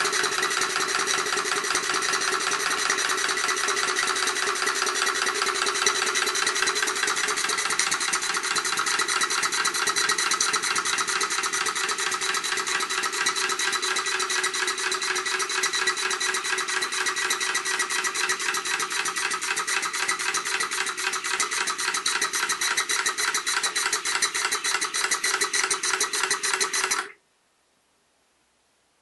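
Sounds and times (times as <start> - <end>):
model steam engine chuffing: 0.0 - 27.2.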